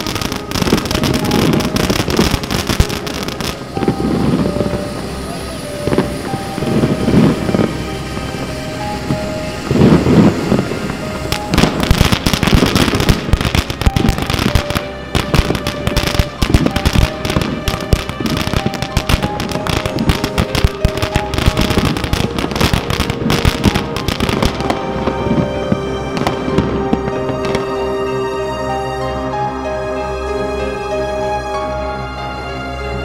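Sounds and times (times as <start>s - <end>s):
firework fountain crackling: 0.0s - 30.1s
background music: 0.0s - 33.0s.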